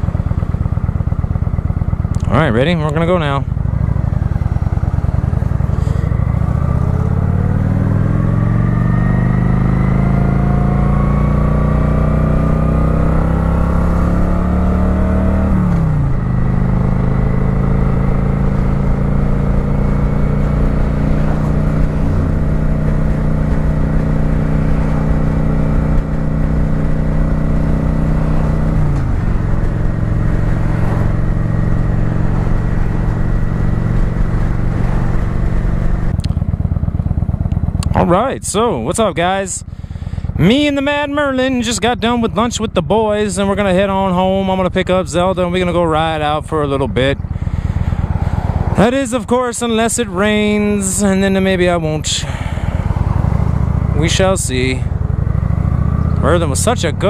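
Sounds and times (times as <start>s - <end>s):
motorcycle engine pulling away: 0.0s - 39.1s, 39.7s - 57.0s.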